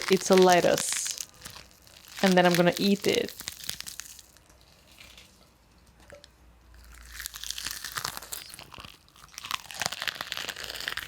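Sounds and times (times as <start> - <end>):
lettuce crunching: 0.0 - 5.4, 6.1 - 11.0.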